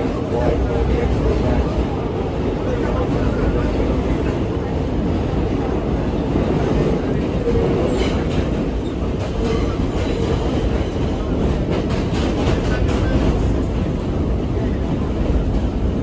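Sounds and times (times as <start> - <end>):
subway car rumble: 0.0 - 16.0.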